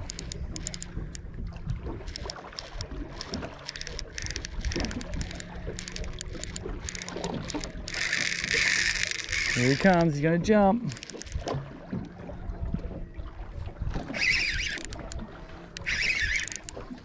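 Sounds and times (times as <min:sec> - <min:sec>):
water lapping against boat hull: 0:00.0 - 0:17.0.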